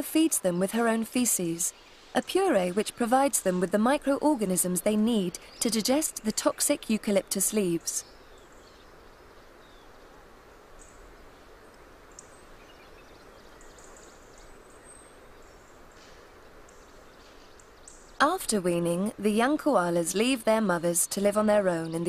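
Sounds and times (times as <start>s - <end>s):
faint background ambience: 0.0s - 22.0s.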